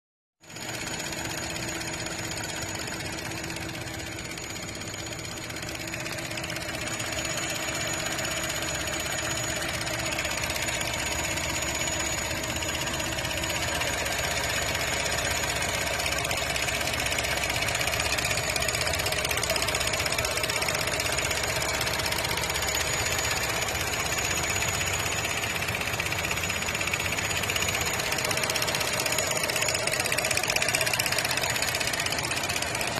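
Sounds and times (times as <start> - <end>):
car engine running noisily: 0.8 - 32.9.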